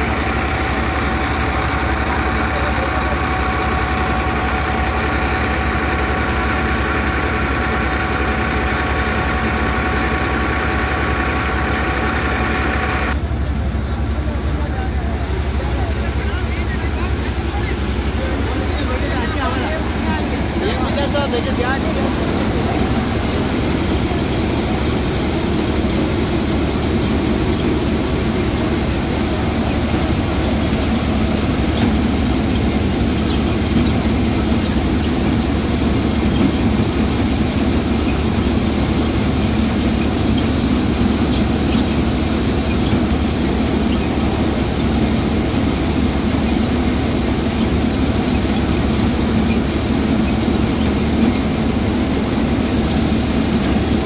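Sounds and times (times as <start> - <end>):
threshing machine drone: 0.0 - 54.0.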